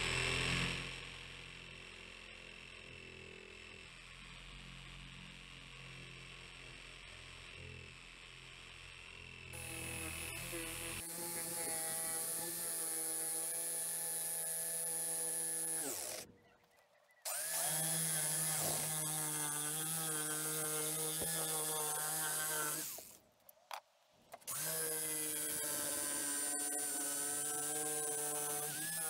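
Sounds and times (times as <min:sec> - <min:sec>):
jigsaw cutting board: 0:00.0 - 0:16.3, 0:17.3 - 0:29.0.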